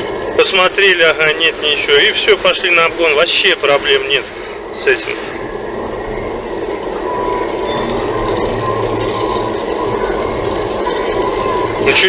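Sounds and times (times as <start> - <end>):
road and tyre noise in car: 0.0 - 12.0.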